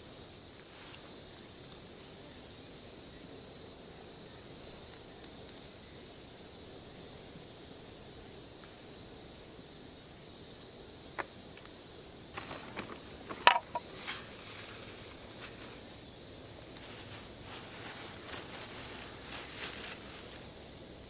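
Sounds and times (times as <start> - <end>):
insects calling in pulses: 0.0 - 21.0
steady hiss: 0.0 - 21.0.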